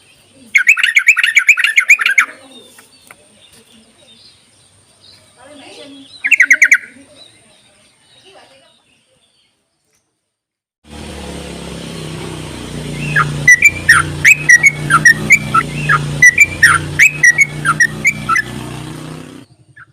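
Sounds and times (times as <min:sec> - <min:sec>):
bird singing chattering song: 0:00.0 - 0:10.2, 0:12.7 - 0:19.9.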